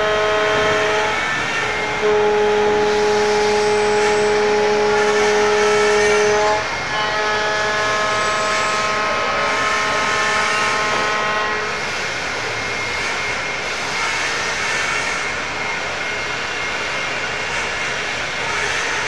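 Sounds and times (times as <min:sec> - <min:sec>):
high multi-tone machine whine: 0:00.0 - 0:19.0
machine shop machinery running: 0:00.0 - 0:19.0.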